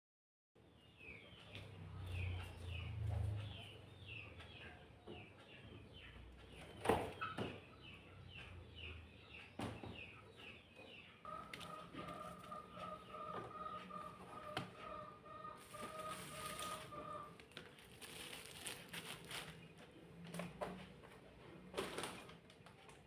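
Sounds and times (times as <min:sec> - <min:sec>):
bird chirping: 0:00.6 - 0:21.0.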